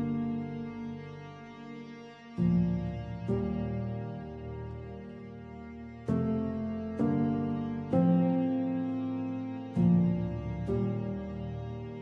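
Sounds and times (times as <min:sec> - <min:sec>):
soft instrumental background music: 0:00.0 - 0:12.0.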